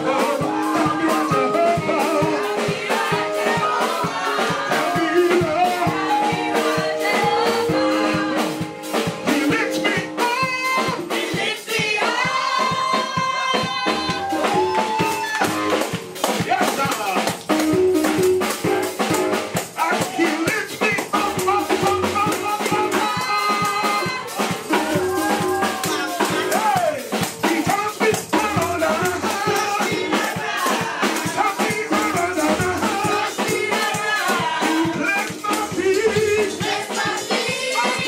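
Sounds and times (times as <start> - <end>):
voices singing: 0.0 - 16.6, 17.6 - 38.0
drums and shakers beat: 0.0 - 38.0.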